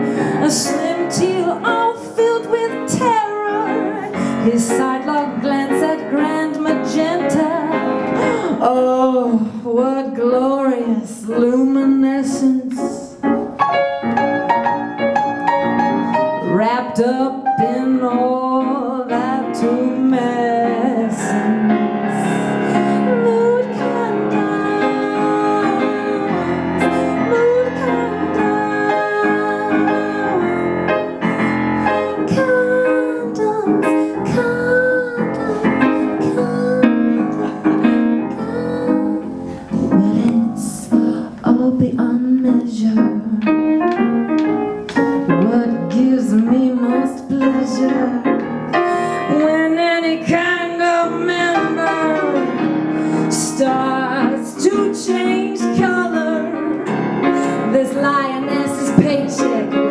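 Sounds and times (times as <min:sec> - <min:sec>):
woman singing: 0:00.0 - 0:13.4, 0:16.2 - 0:44.0, 0:45.0 - 0:59.9
piano accompaniment: 0:00.0 - 0:59.9.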